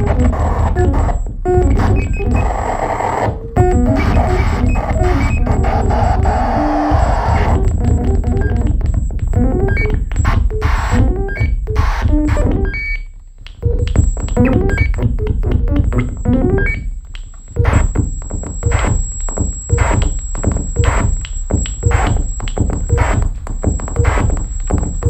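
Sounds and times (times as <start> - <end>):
electronic synth pulses and tones: 0.0 - 25.0.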